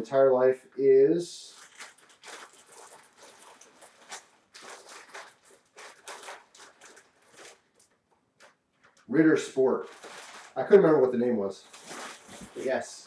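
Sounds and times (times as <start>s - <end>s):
plastic bag crinkling: 1.5s - 13.0s.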